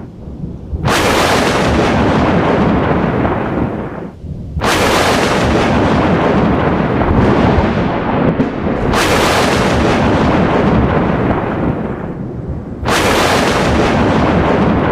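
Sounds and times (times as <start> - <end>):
sharp thunder crack: 0.0 - 14.9
thunder rumbling: 0.0 - 14.9.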